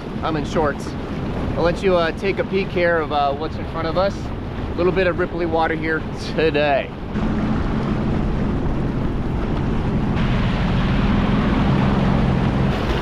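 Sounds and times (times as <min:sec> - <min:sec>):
rushing water: 0:00.0 - 0:13.0
watercraft engine hum: 0:00.0 - 0:13.0
wind buffeting microphone: 0:00.0 - 0:13.0.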